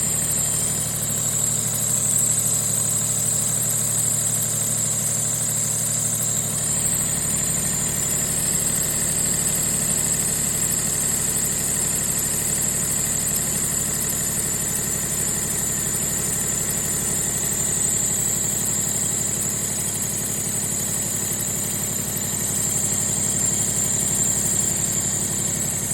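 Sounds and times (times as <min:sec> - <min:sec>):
car engine idling: 0:00.0 - 0:25.9
high-pitched engine whine: 0:00.0 - 0:25.9.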